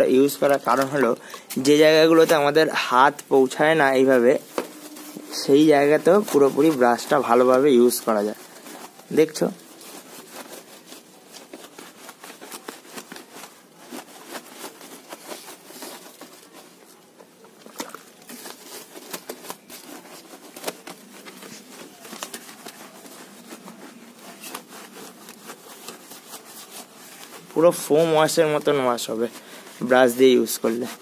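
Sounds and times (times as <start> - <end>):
brush scrubbing: 0.3 - 17.1, 17.7 - 31.0.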